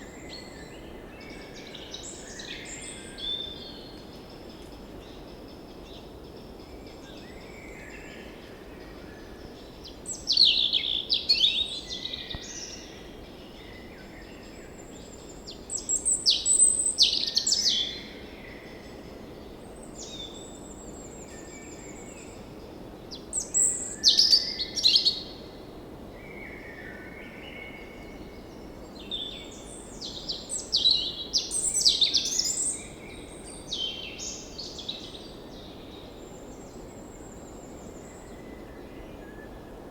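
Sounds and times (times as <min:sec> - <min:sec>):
low background hiss: 0:00.0 - 0:39.9
songbirds chirping and trilling: 0:00.0 - 0:39.9.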